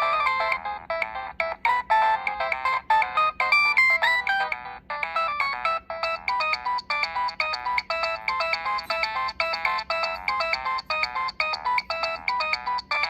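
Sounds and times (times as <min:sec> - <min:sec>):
synthesized ringtone melody: 0:00.0 - 0:13.0.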